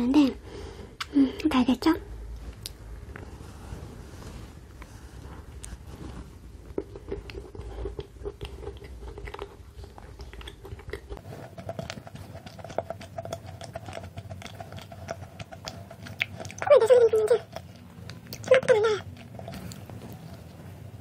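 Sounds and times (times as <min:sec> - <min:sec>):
soft moist chewing: 0:02.3 - 0:03.4, 0:04.4 - 0:21.0.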